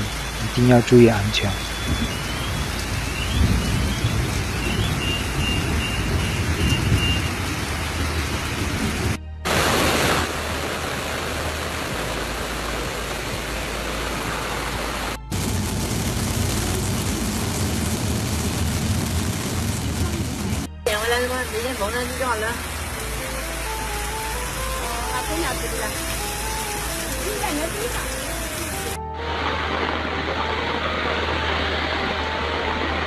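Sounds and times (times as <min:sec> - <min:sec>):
heavy rain hissing: 0:00.0 - 0:33.0.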